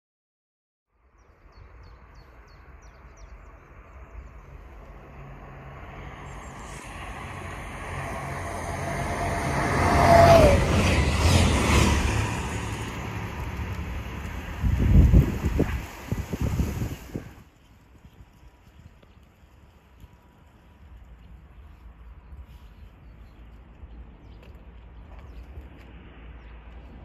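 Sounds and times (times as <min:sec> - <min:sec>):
diesel train passing: 0:02.4 - 0:27.0.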